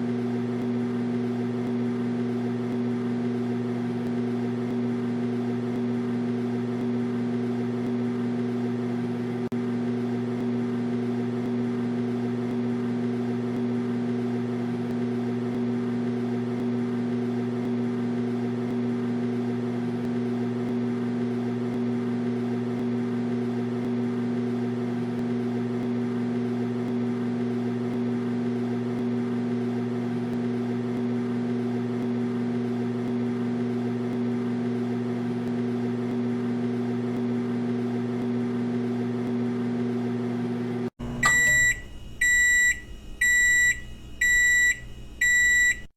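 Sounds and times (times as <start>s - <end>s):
microwave oven hum: 0.0s - 45.9s.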